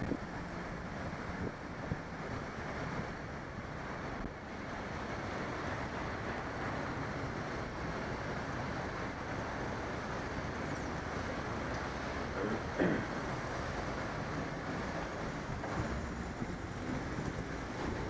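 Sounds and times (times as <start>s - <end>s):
wind on microphone: 0.0s - 12.4s, 13.2s - 18.0s
road traffic noise: 0.0s - 18.0s.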